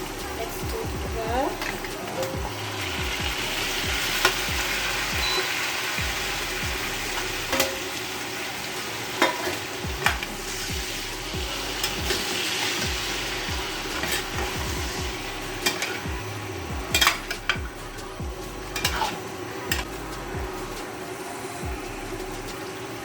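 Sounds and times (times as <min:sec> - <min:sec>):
onions sizzling in hot oil: 0:00.0 - 0:23.0
spatula scraping a pan: 0:01.6 - 0:18.1, 0:18.7 - 0:20.8.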